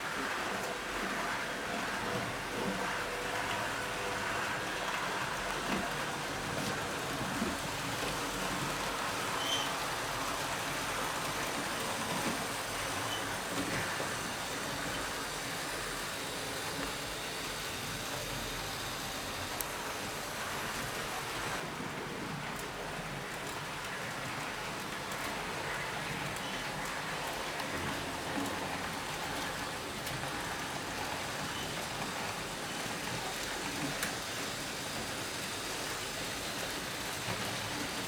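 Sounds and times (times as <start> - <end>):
model train rumbling on track: 0.0 - 38.0.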